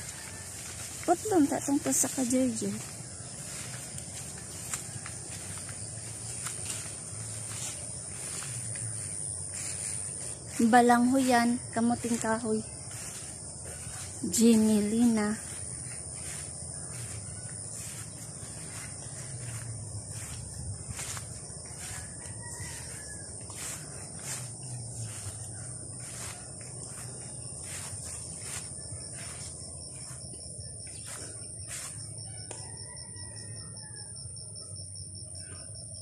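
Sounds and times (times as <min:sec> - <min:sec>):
footsteps through grass: 0:00.0 - 0:33.3
high-pitched insect drone: 0:00.0 - 0:36.0.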